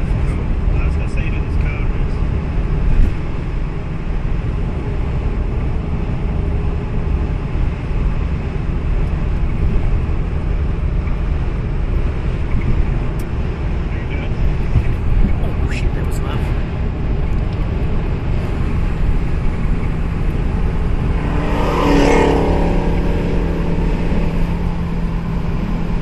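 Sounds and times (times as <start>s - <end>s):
car engine low rumble: 0.0s - 26.0s
road and wind noise: 0.0s - 26.0s.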